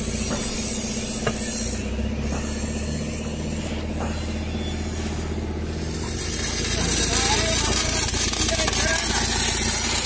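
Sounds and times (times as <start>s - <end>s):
low mechanical hum: 0.0s - 10.0s
welding arc crackling hiss: 0.0s - 10.0s.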